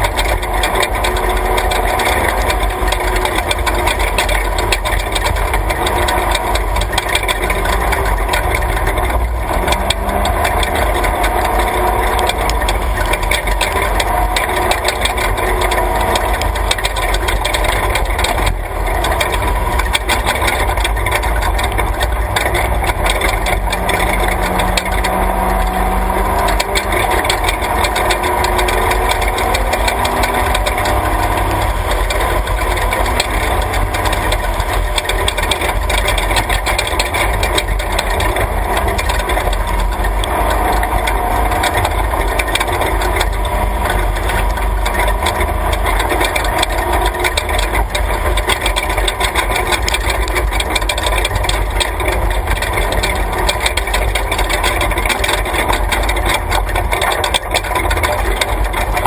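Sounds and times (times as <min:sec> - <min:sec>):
truck body and suspension rattling: 0:00.0 - 0:59.0
truck engine running under load: 0:00.0 - 0:59.0.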